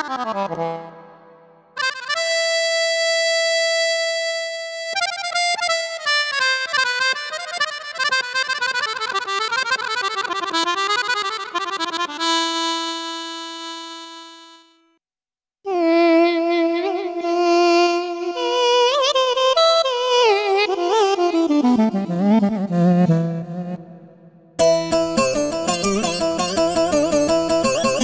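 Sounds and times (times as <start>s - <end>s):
keyboard accordion-like melody: 0.0s - 15.0s, 18.1s - 23.9s, 24.6s - 28.0s.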